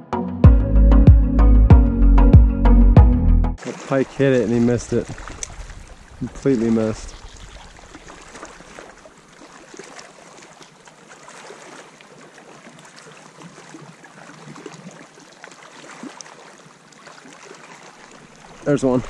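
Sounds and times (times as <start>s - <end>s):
waves lapping on rocky shore: 3.6s - 19.0s.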